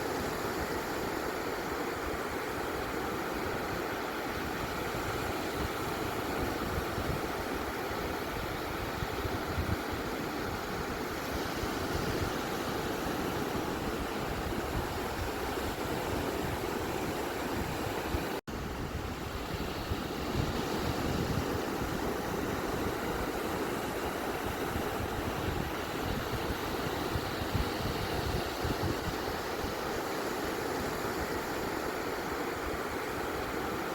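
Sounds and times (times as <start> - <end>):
ocean surf on a beach: 0.0 - 33.9.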